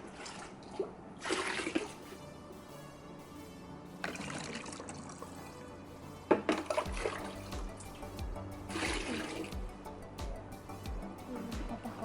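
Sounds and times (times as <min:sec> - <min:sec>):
background music with low beat: 0:01.0 - 0:12.0.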